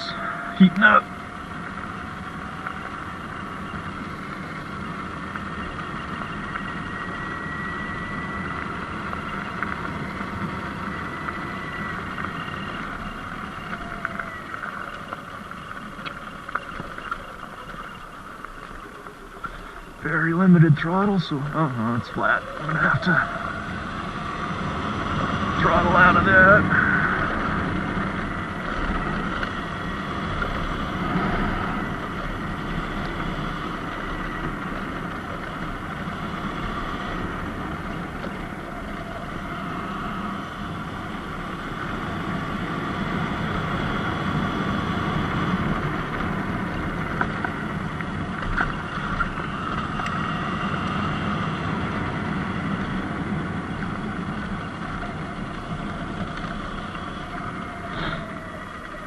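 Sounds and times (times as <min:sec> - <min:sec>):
faint electric motor whine: 0:00.0 - 0:59.0.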